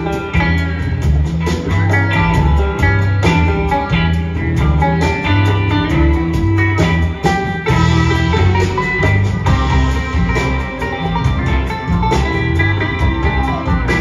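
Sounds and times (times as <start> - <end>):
string band playing rock: 0.0 - 14.0
upright bass line: 0.0 - 14.0.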